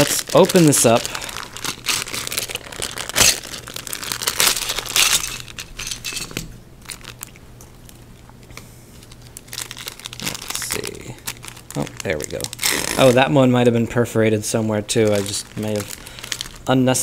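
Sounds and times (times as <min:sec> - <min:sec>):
plastic bag crinkling and tearing: 0:00.0 - 0:06.2, 0:06.8 - 0:08.0, 0:09.0 - 0:13.4, 0:14.4 - 0:17.0.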